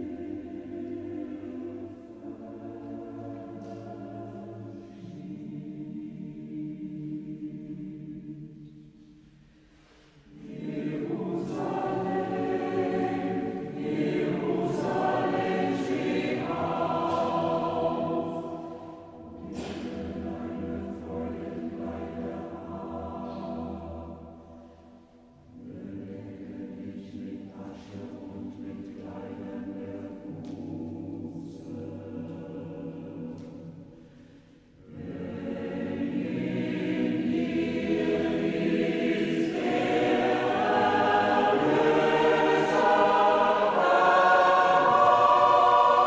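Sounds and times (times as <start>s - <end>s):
choir singing: 0.0s - 46.0s.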